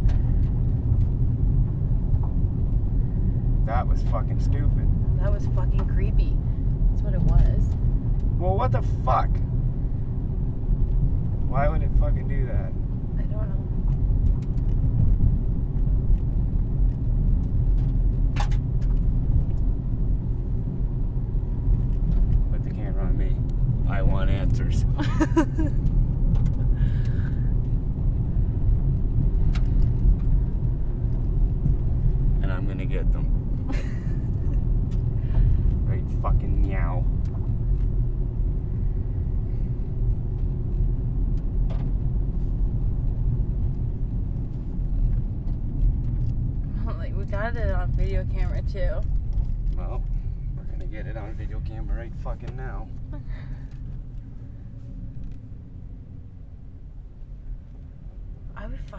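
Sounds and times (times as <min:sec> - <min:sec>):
car road and engine rumble: 0:00.0 - 0:58.9.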